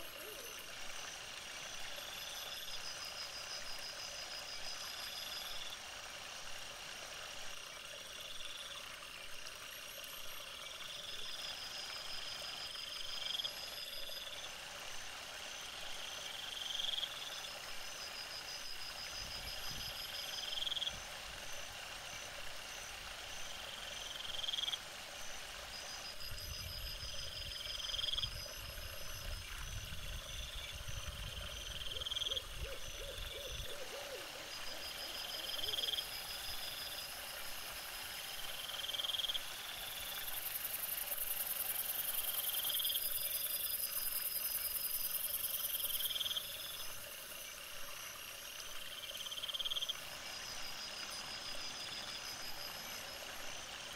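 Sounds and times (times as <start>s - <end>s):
high-pitched pulsing insect chorus: 0.0s - 53.9s.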